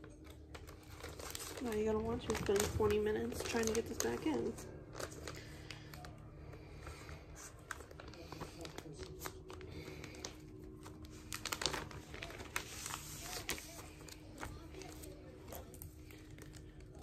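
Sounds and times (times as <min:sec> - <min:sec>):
plastic and cardboard sleeve crinkling: 0:00.0 - 0:17.0.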